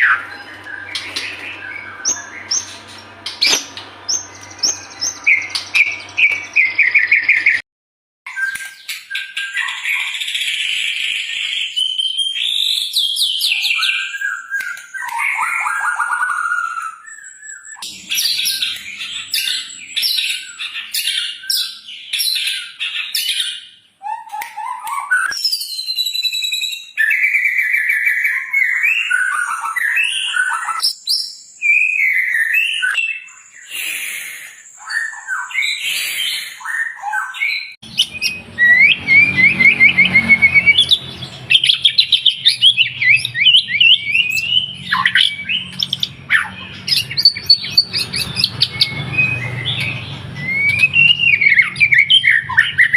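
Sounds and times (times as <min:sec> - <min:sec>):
bird singing: 0:00.0 - 0:07.6, 0:08.3 - 0:52.9.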